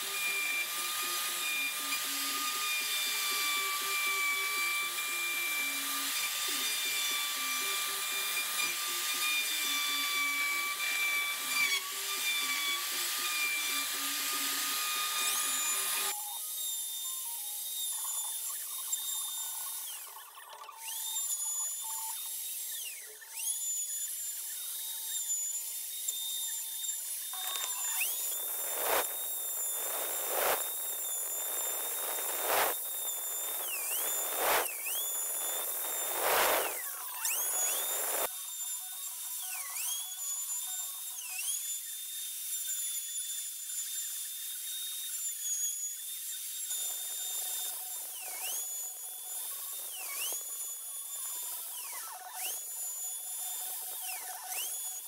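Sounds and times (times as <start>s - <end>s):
electric router motor whine: 0.0s - 55.0s
router cutting wood: 0.0s - 55.0s.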